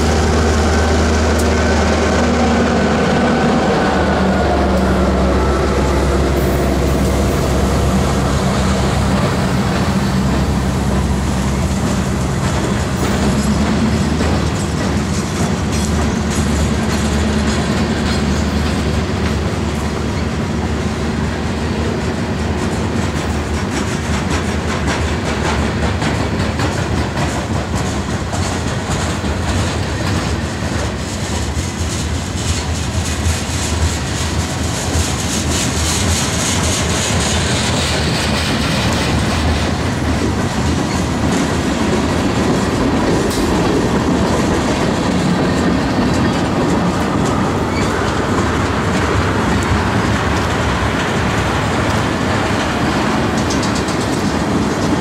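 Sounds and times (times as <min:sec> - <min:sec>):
freight train rolling past: 0:00.0 - 0:55.0
train wheels clicking over rail joints: 0:00.0 - 0:55.0.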